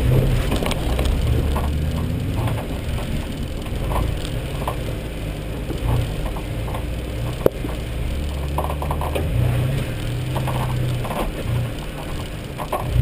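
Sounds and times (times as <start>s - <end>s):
engine running at low revs: 0.0s - 13.0s
vehicle body rattling: 0.0s - 13.0s.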